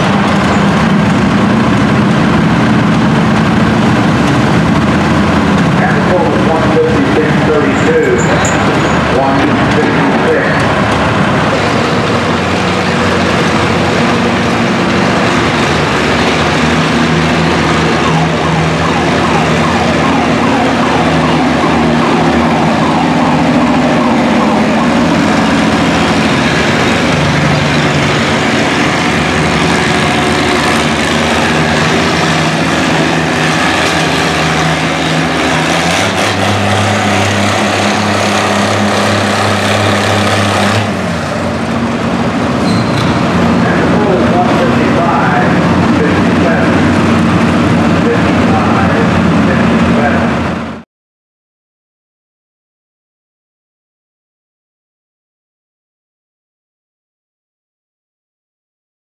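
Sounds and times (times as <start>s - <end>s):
tractor engine under full load: 0.0s - 50.8s.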